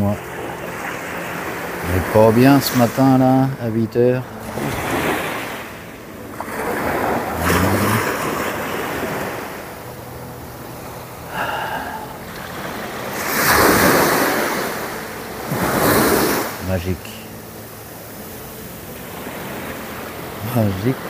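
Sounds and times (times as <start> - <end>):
surf washing onto beach: 0.0 - 21.0.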